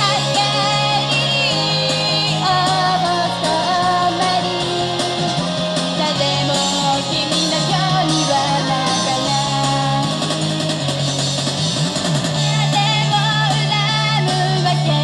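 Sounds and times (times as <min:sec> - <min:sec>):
women singing pop song: 0:00.0 - 0:05.1, 0:05.8 - 0:10.2, 0:12.4 - 0:15.0
pop backing track: 0:00.0 - 0:15.0.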